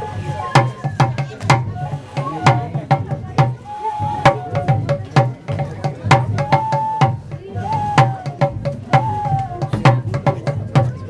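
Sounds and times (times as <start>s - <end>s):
cane flute melody: 0.0s - 11.0s
drum struck with sticks: 0.0s - 11.0s.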